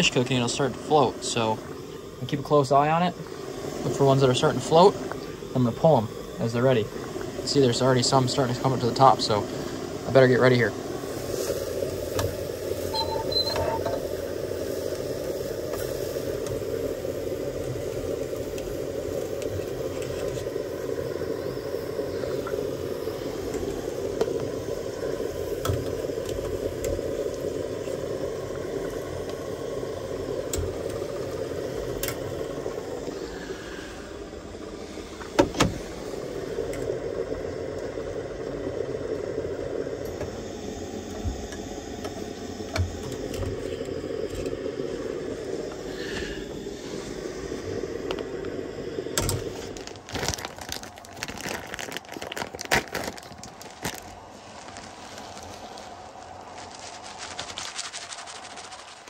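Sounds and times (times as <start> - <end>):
gas stove burners running: 0.0 - 51.2
water boiling in a pot: 0.0 - 59.0.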